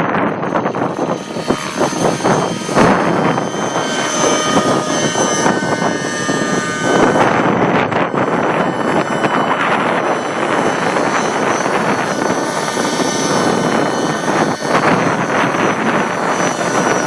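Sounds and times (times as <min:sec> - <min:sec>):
model helicopter high whine: 0:00.0 - 0:17.0
wind buffeting microphone: 0:00.0 - 0:17.0.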